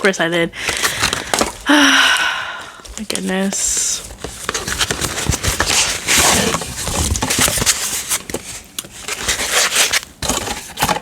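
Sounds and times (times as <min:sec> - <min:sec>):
packaging crinkling and rustling: 0:00.6 - 0:11.0.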